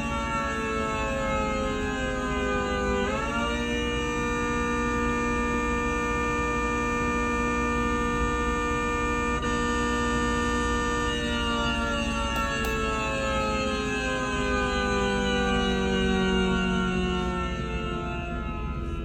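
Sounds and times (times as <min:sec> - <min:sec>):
siren alert chord: 0:00.0 - 0:19.0.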